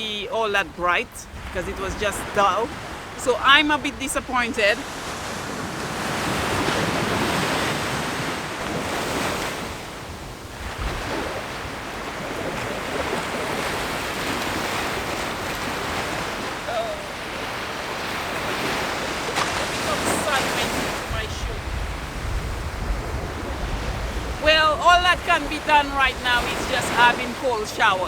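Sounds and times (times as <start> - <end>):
sea surf washing on shore: 0.0 - 28.0
wind buffeting microphone: 0.0 - 28.0.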